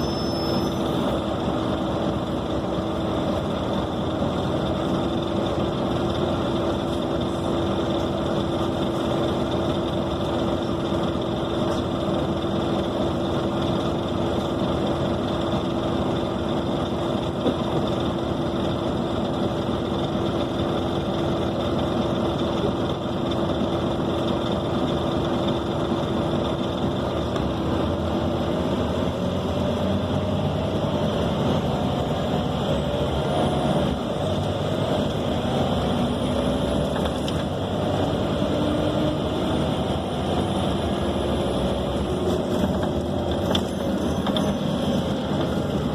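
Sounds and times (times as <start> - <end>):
bus diesel engine drone: 0.0 - 45.9.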